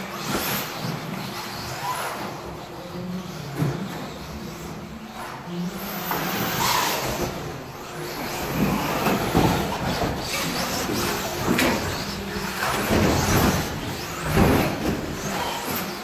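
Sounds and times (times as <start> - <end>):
toy car motors and tyres: 0.0 - 16.0
toy cars bumping and landing: 0.1 - 16.0.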